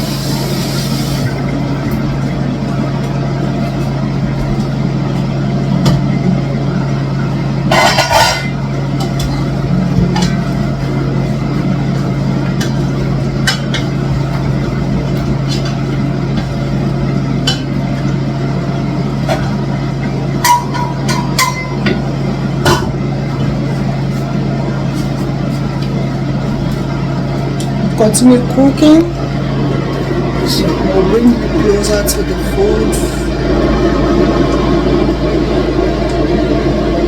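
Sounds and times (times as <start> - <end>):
cooking setup hum: 0.0 - 37.0.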